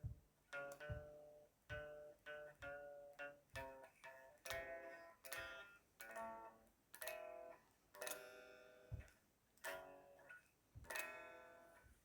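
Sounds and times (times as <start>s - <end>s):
guitar strummed softly: 0.0s - 11.8s.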